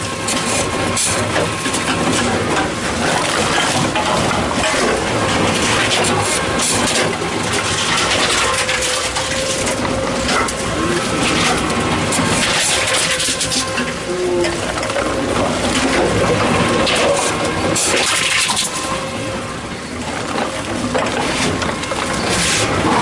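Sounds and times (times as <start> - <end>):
conveyor belt mechanical noise: 0.0 - 23.0.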